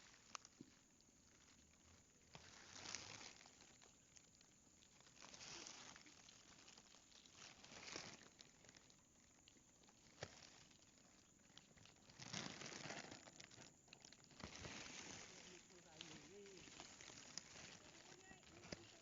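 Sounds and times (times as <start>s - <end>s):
leaves rustling by hand: 0.0s - 9.0s, 9.9s - 19.0s.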